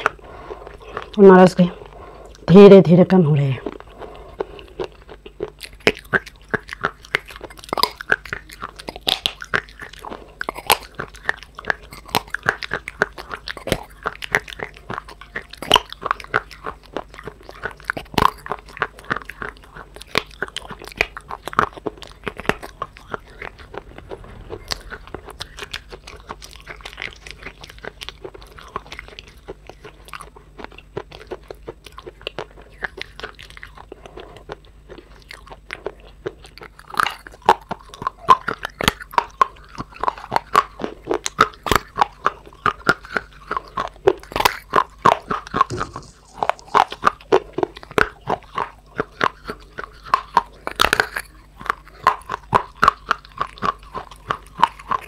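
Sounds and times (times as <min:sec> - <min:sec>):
chewing dry clay crunches: 0:00.0 - 0:02.7, 0:03.4 - 0:55.0.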